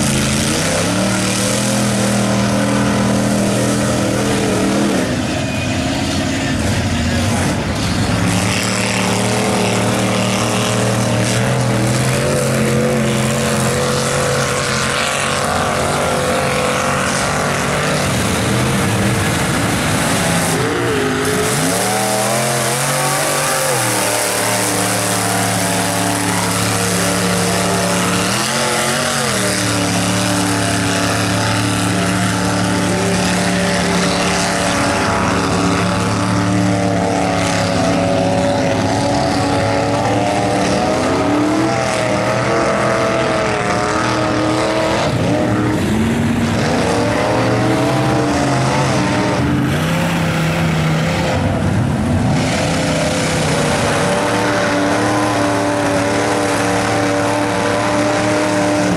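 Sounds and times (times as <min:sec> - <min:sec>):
truck engines revving: 0:00.0 - 0:58.9.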